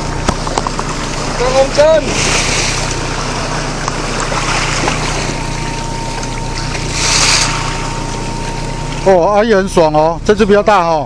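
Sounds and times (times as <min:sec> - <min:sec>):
boat engine running: 0:00.0 - 0:11.0
choppy sea against hull: 0:00.0 - 0:11.0.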